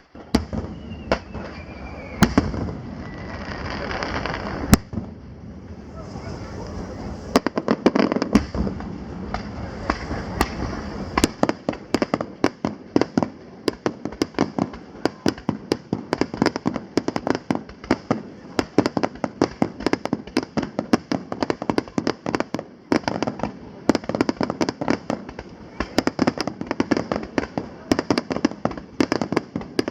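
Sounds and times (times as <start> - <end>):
fireworks booming: 0.0 - 29.9
fireworks sharp bangs and cracks: 0.0 - 29.9.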